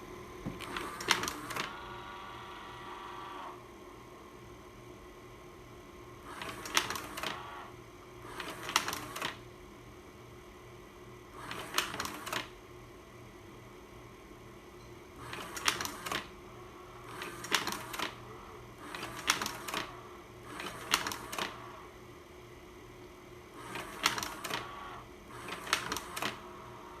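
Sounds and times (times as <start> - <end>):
steady hum: 0.0 - 11.4, 12.2 - 27.0.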